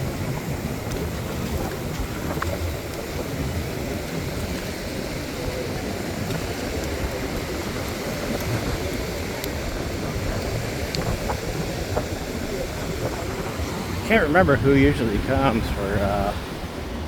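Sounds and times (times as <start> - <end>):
ocean surf on beach: 0.0 - 17.0
wind buffeting microphone: 0.0 - 17.0.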